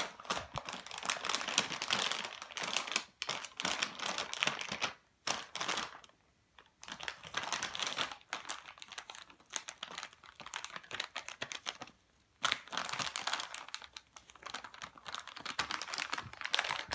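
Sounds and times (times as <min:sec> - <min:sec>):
plastic pouch crinkling: 0:00.0 - 0:16.9.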